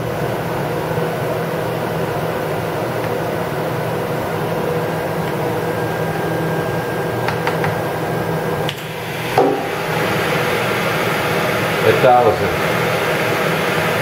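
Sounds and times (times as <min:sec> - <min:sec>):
machine humming with high whine: 0:00.0 - 0:14.0.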